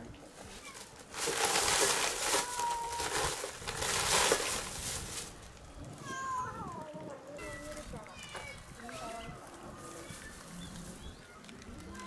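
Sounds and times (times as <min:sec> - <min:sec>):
crinkling rustling: 0:00.0 - 0:12.0.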